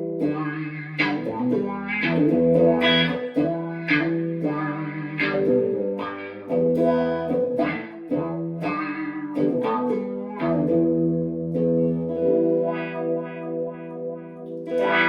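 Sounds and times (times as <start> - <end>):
electric guitar chords with wah: 0.0 - 15.0.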